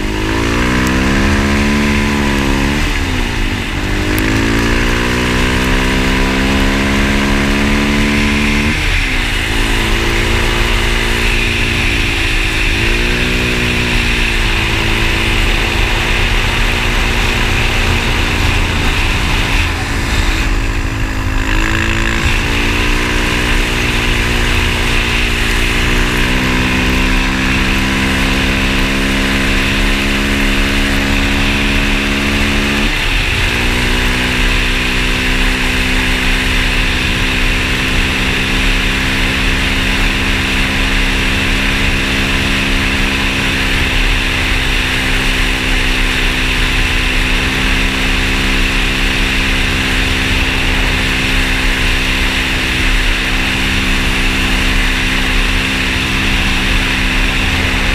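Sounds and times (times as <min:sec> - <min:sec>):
motorcycle engine changing gears: 0:00.0 - 0:57.9.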